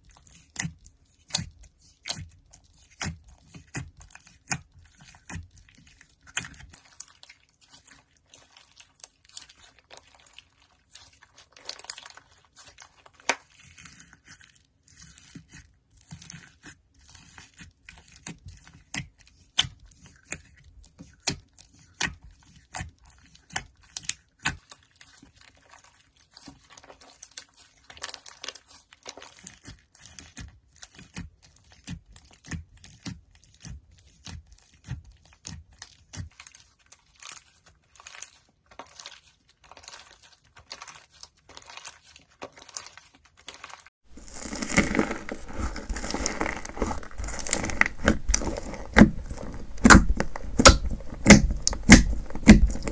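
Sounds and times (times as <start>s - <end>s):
hands squishing slime: 0.0s - 52.9s.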